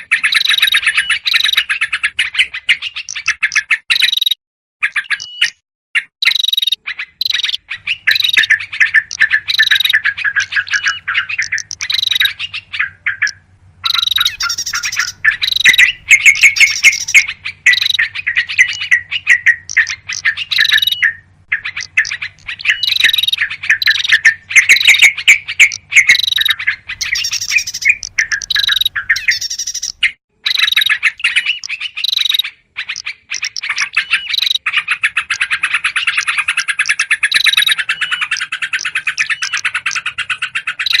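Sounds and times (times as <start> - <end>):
songbirds chattering and scolding: 0.0 - 41.0.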